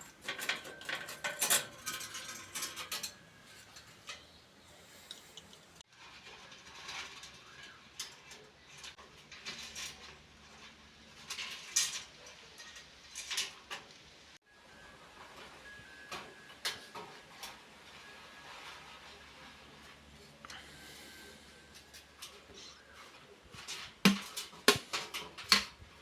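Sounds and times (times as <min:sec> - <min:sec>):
small metal parts clicking and scraping: 0:00.0 - 0:14.2, 0:15.2 - 0:26.0.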